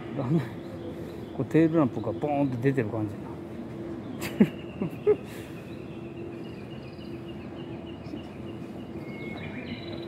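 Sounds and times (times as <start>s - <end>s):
steady hall hum: 0.0s - 10.0s.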